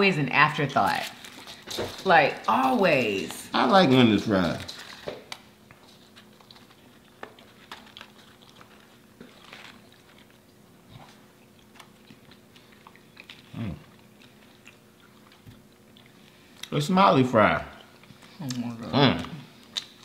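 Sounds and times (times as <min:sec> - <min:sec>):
chewing french fries: 0:00.8 - 0:02.8, 0:03.5 - 0:20.0.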